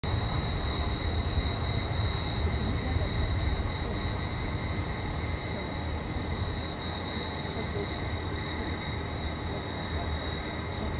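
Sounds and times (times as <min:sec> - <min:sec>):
steam locomotive high-pitched whine: 0:00.0 - 0:10.9.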